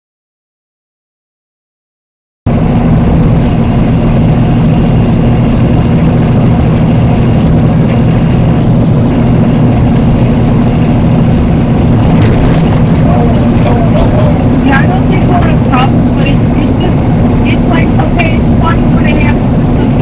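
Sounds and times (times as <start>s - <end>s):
heavy vehicle engine droning: 2.5s - 20.0s.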